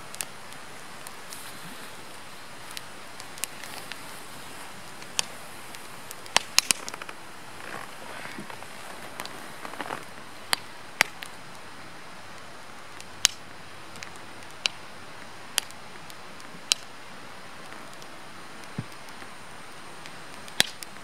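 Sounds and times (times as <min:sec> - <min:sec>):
campfire crackling and popping: 0:00.0 - 0:21.0
soft fire hiss: 0:00.0 - 0:21.0.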